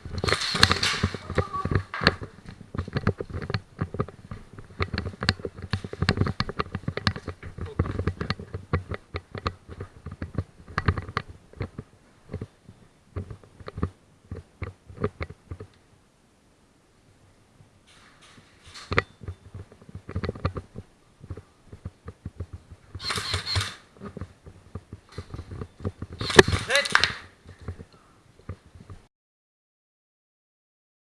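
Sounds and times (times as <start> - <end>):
sharp clicks and knocks: 0.0 - 12.5, 13.2 - 15.8, 17.9 - 29.0.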